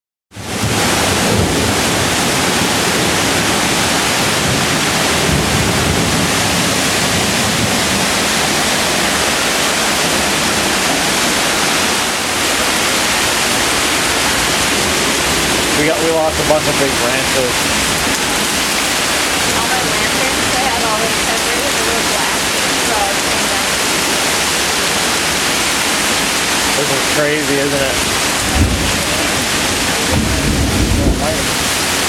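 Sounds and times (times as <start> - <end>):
storm rushing noise: 0.4 - 32.0.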